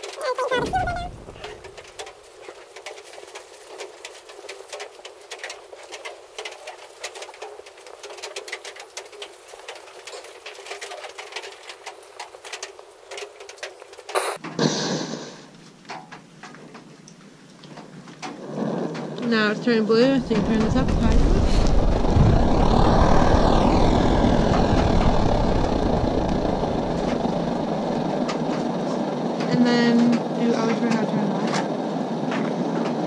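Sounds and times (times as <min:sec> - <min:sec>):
stove flame crackling: 0:00.0 - 0:14.4, 0:19.3 - 0:33.0.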